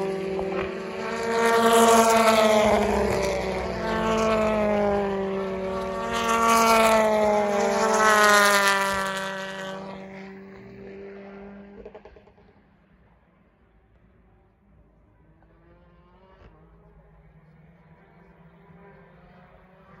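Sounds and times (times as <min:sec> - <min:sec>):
racing cars passing at speed: 0:00.0 - 0:20.0.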